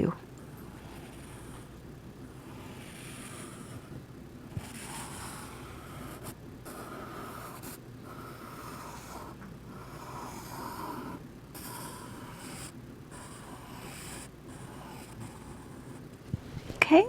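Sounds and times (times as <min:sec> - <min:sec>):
pencil scratching on paper: 0:00.4 - 0:01.7, 0:02.3 - 0:16.1.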